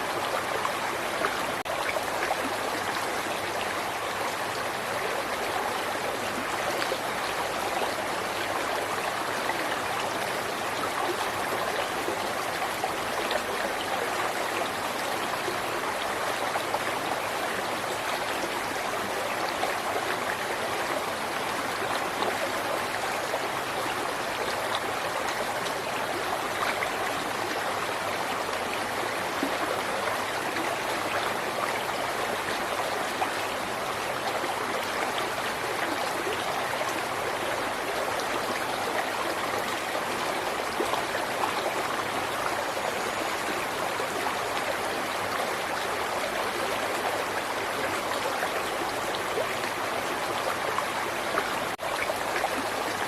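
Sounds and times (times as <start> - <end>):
river water babbling over rocks: 0.0 - 53.0.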